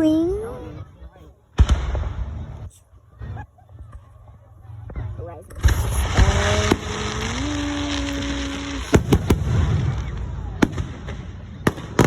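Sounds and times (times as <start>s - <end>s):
fireworks crackling: 1.5s - 12.0s
fireworks exploding: 1.5s - 12.0s.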